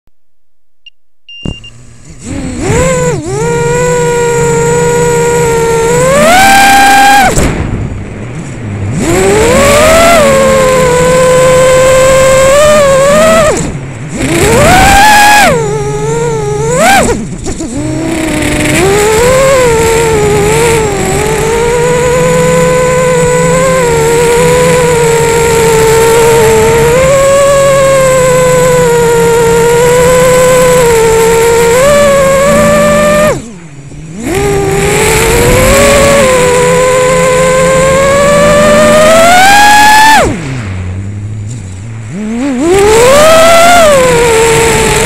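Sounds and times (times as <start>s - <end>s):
quadcopter motors whining: 1.3s - 7.6s, 8.9s - 40.4s, 41.5s - 45.0s.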